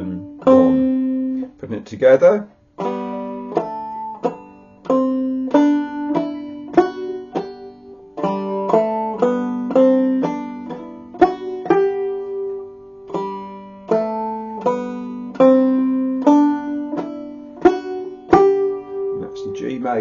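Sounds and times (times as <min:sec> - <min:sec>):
banjo picking a scale: 0:00.0 - 0:20.0.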